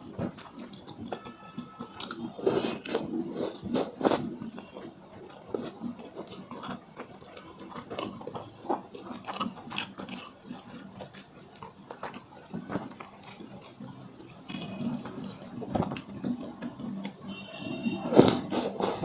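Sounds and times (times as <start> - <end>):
person chewing with wet mouth clicks: 0.1 - 19.0.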